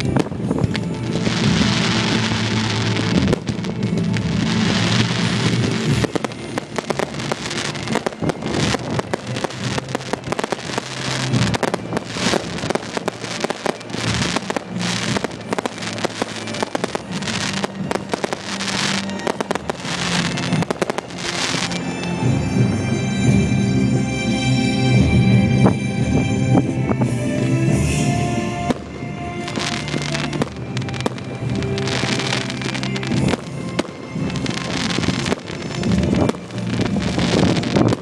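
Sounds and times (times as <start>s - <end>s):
fireworks crackling and popping: 0.0s - 38.0s
music: 0.0s - 38.0s.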